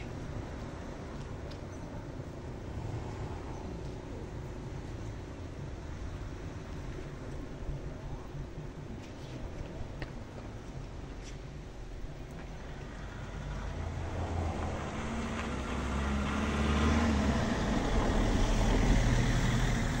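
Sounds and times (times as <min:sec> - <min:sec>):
road noise: 0:00.0 - 0:20.0
vehicle engine rumble: 0:00.0 - 0:20.0.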